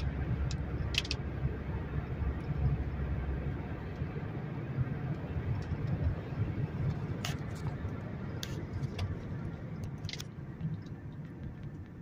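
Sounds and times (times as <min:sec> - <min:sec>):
road and engine noise in a car: 0:00.0 - 0:12.0.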